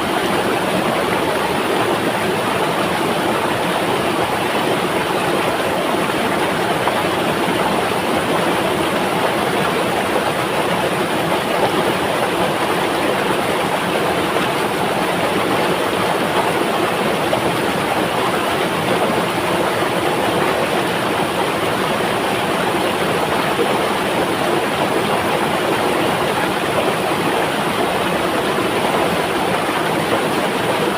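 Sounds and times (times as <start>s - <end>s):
river water flowing: 0.0s - 30.9s.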